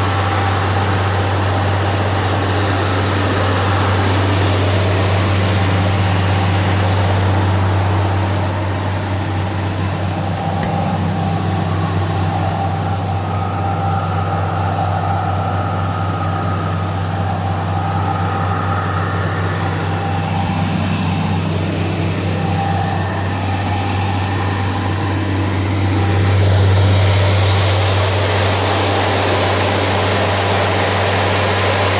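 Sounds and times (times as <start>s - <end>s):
farm machine engine humming: 0.0s - 31.9s.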